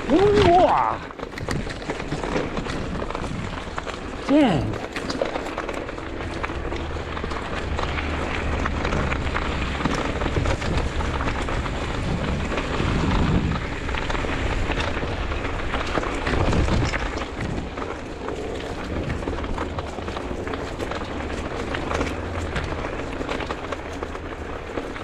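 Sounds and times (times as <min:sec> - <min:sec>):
crunching and rattling on trail: 0:00.0 - 0:25.0.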